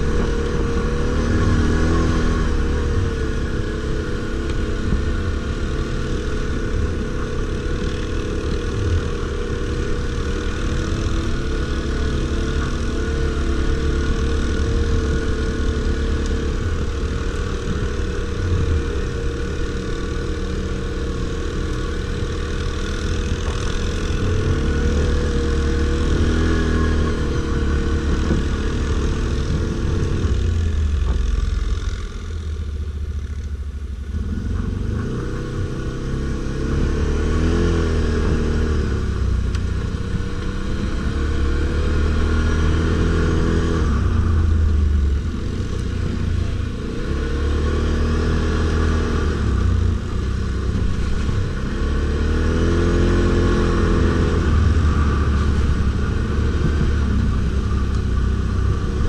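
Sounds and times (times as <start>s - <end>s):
atv engine revving: 0.0s - 33.5s, 34.1s - 59.0s.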